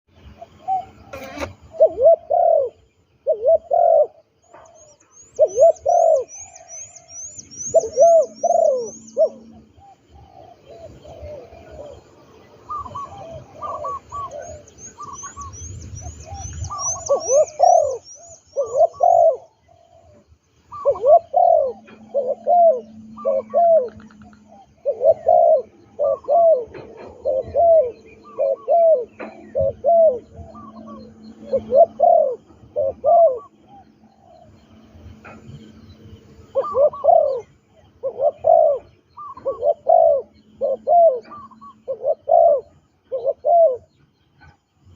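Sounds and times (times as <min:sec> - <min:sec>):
dove cooing: 0:00.4 - 0:35.7, 0:36.3 - 0:44.6.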